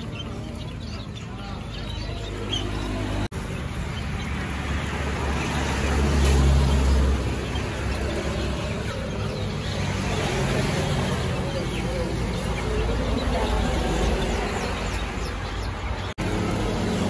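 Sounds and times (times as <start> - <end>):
outdoor background noise: 0.0 - 17.0
vehicle engine passing by: 2.4 - 17.0.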